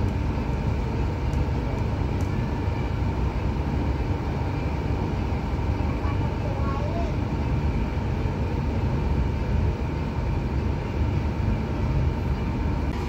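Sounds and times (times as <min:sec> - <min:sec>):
train rumble from inside coach: 0:00.0 - 0:13.0.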